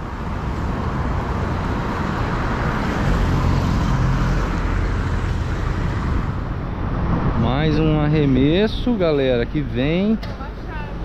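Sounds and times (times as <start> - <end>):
steady rushing noise: 0.3 - 10.2.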